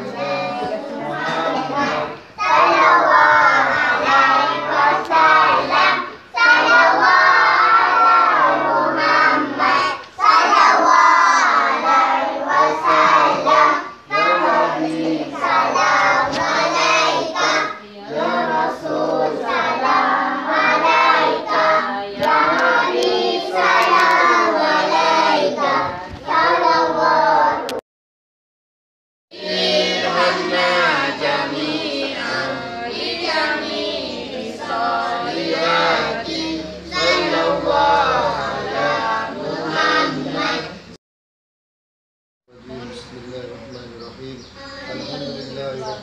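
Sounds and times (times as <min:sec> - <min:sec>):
children singing in chorus: 0:00.0 - 0:27.8, 0:29.3 - 0:41.0.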